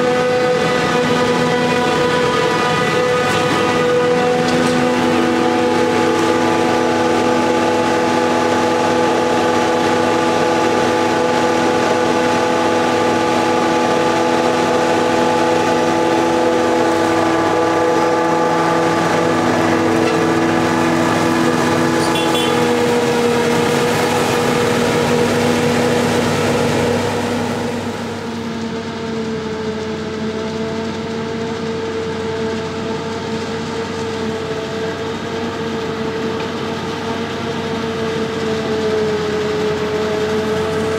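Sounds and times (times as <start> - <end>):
forage harvester drone: 0.0 - 40.9.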